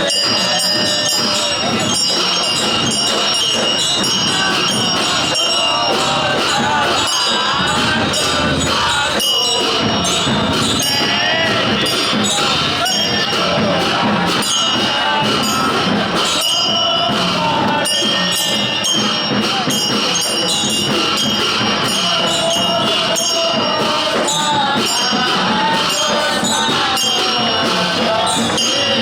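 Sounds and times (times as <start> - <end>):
crowd voices: 0.0 - 29.0
high ringing cymbals: 0.0 - 29.0
percussion in steady rhythm: 0.0 - 29.0.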